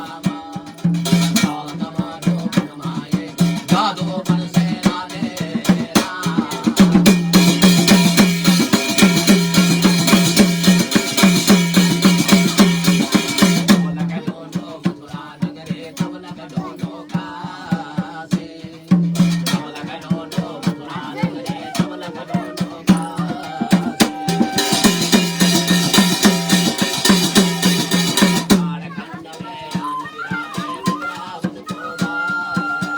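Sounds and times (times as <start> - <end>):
fast steady drumming: 0.0 - 32.9.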